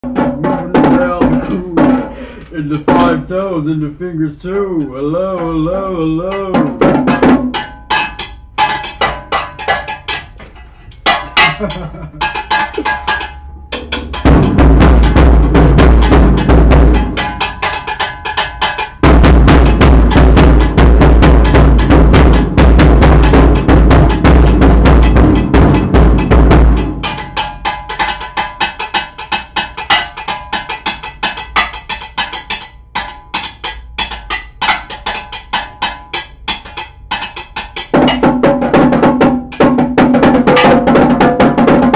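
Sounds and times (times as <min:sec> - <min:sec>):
drum kit played with sticks: 0:00.0 - 0:03.5, 0:04.6 - 0:41.9.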